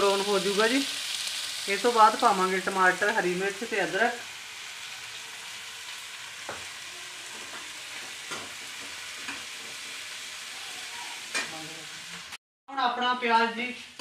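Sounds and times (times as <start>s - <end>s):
onions sizzling in oil: 0.0s - 12.4s.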